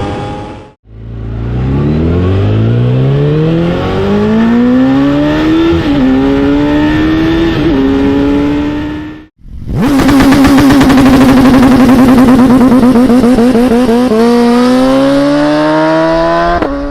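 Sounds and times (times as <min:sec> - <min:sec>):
warbling motorcycle engine: 0:00.0 - 0:15.5
motorcycle engine accelerating: 0:00.0 - 0:16.9.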